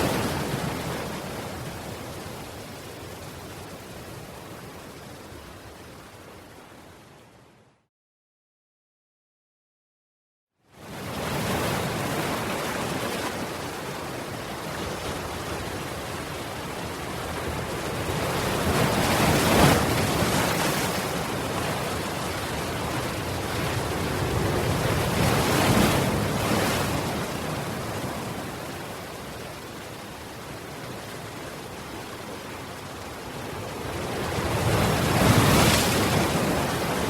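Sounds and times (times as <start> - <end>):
waves washing on shore: 0.0 - 6.9, 10.8 - 37.0
big waves breaking: 0.0 - 7.2, 10.8 - 37.0.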